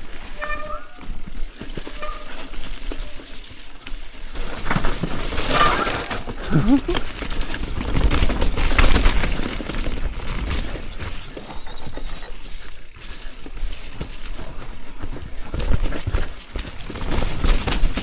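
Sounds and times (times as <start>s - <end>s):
bike rattling and knocking: 0.0s - 18.0s
bike tyres rolling over dirt: 0.0s - 18.0s.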